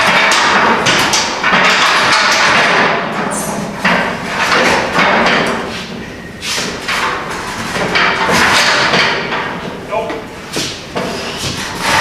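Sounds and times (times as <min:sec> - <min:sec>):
metal shelving scraping on concrete: 0:00.0 - 0:09.6, 0:10.5 - 0:12.0.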